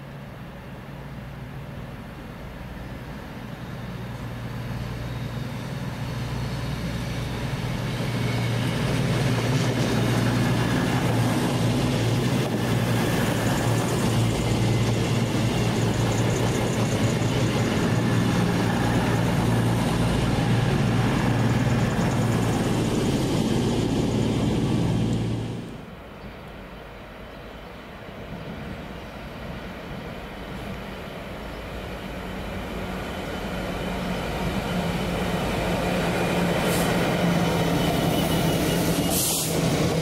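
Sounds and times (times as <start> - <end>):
train engine drone: 0.0 - 40.0
train rushing noise: 0.6 - 40.0.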